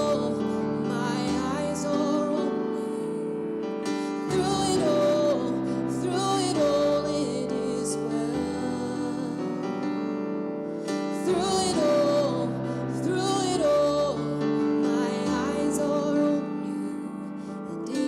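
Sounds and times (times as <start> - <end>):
person singing gospel song: 0.0 - 18.0
piano accompaniment: 0.0 - 18.0.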